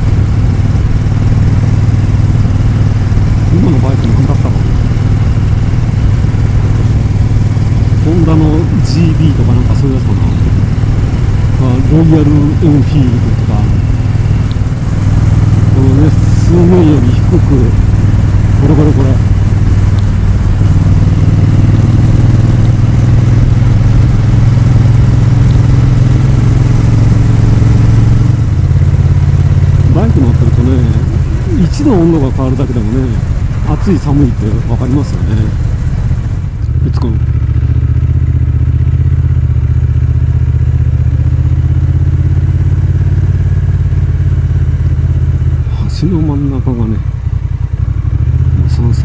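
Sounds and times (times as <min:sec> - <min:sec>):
motorcycle engine cruising: 0:00.0 - 0:49.0.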